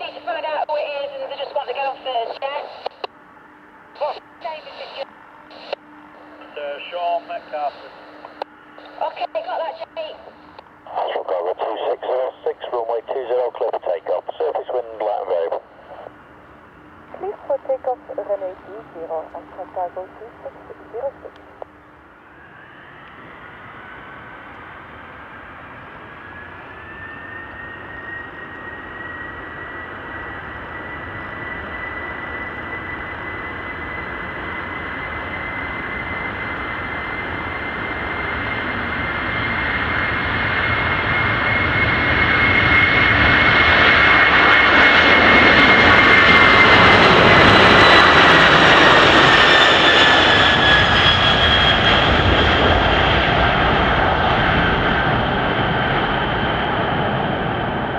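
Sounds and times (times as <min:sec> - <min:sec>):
jet engines at takeoff: 0:00.0 - 0:57.9.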